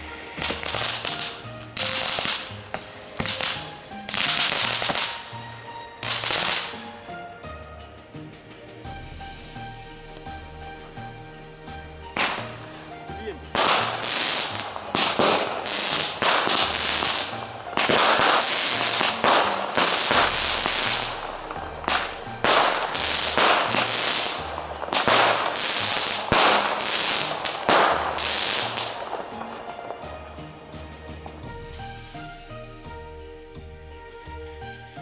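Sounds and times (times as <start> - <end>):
fireworks hissing bursts: 0.0 - 8.6, 9.2 - 32.6
background music: 0.0 - 35.0.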